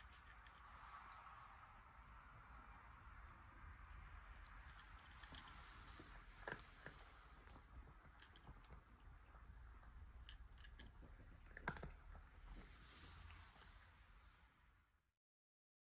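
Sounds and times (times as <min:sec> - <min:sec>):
cat eating with clicks and crunches: 0:00.0 - 0:14.4.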